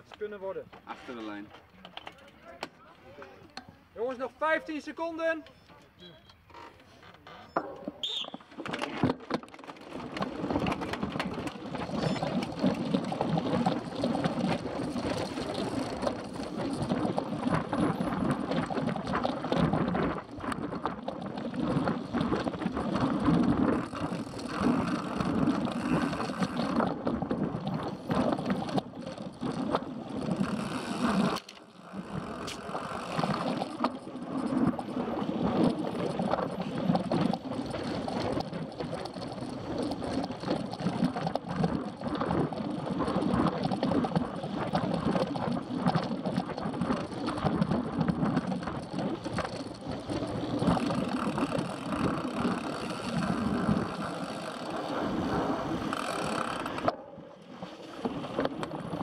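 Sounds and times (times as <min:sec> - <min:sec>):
bike chain and tyres rattling: 0:00.0 - 0:02.6, 0:06.5 - 0:57.2, 0:57.8 - 0:59.0.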